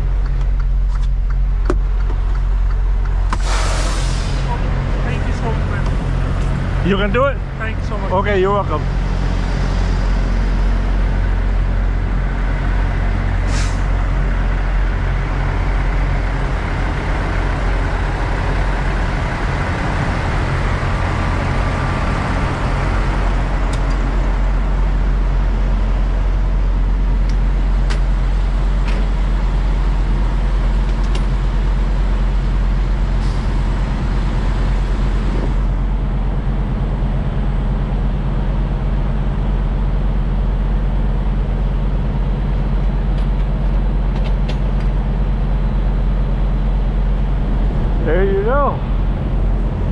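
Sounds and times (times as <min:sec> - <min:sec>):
diesel truck engine idling: 0:00.0 - 0:49.9.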